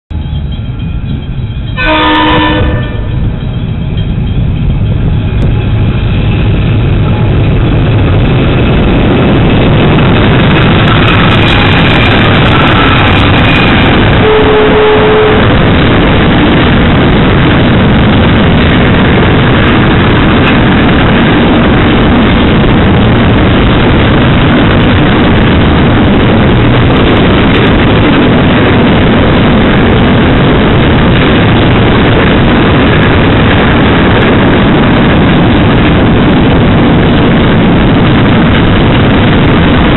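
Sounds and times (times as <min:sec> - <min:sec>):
diesel locomotive engines: 0:00.1 - 0:39.9
train wheels on rail: 0:00.1 - 0:39.9.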